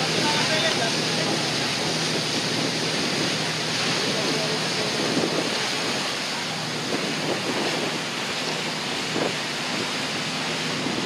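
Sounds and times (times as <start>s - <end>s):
rush of wind and water: 0.0s - 11.0s
wind buffeting microphone: 0.0s - 11.0s.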